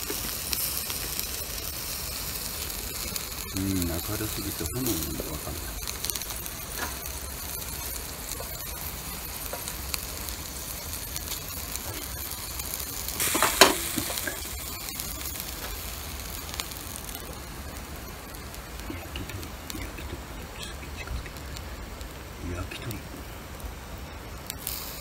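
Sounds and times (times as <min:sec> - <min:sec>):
fire crackling: 0:00.0 - 0:25.0
skewers sizzling over grill fire: 0:00.0 - 0:25.0.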